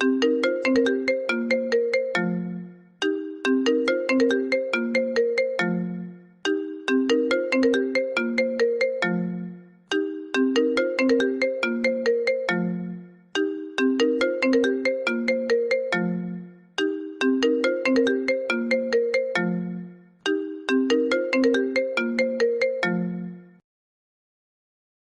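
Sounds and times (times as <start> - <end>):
phone ringtone melody: 0.0 - 23.6.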